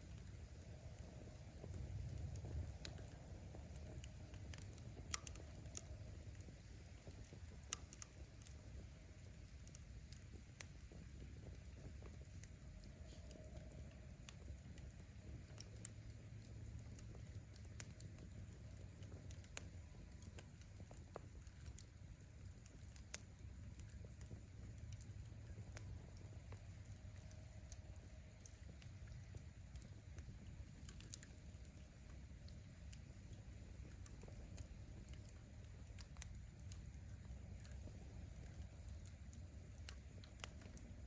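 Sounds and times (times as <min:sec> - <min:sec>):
campfire crackling: 0:00.0 - 0:41.0
low steady rumble: 0:00.0 - 0:41.0.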